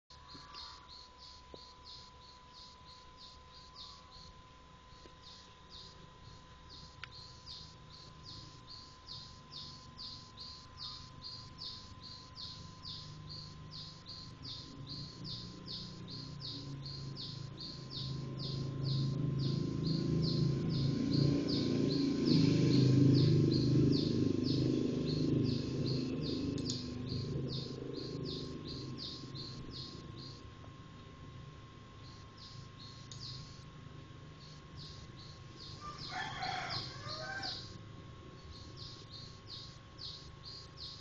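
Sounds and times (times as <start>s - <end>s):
bird chirping: 0.1s - 4.3s, 4.9s - 30.4s, 32.0s - 33.6s, 34.4s - 37.8s, 38.4s - 41.0s
faint high hum: 0.1s - 41.0s.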